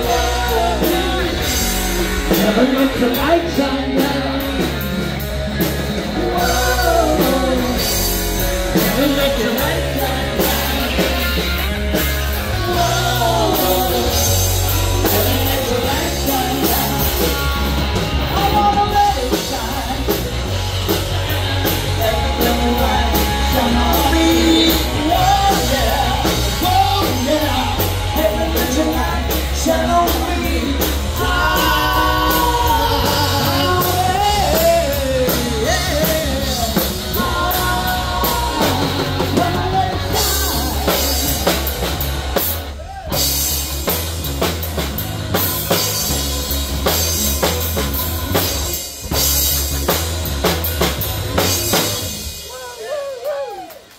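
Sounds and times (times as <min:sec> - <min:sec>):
bending lead guitar melody: 0:00.0 - 0:52.6
bass guitar: 0:00.0 - 0:53.9
drum kit: 0:00.0 - 0:53.9
electric guitar: 0:00.0 - 0:53.9.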